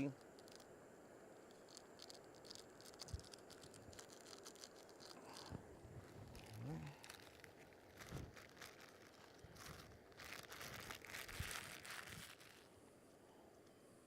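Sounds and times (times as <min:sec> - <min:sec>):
rustling and crinkling: 0:00.0 - 0:12.8.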